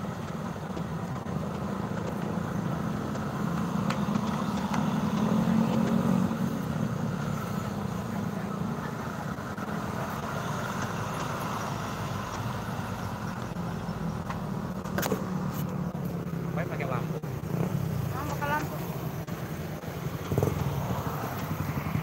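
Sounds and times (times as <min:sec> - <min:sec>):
heavy vehicle engine rumble: 0:00.0 - 0:22.0
road traffic: 0:00.0 - 0:22.0.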